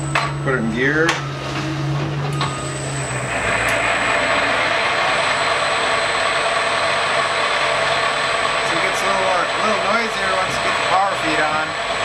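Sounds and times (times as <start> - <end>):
lathe spindle whirring: 1.2 - 12.0.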